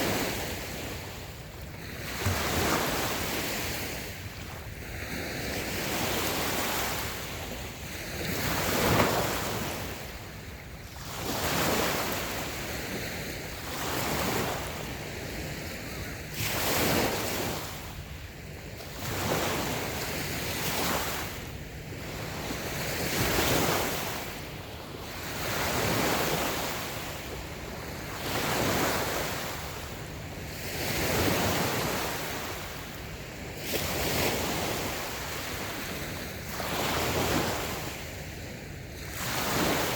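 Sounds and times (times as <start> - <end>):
waves washing onto sand: 0.0 - 39.9.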